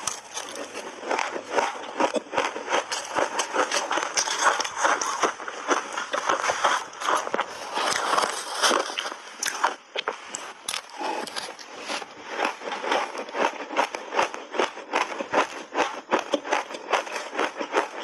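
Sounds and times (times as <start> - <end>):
person chewing crunchy ice: 0.0 - 18.0.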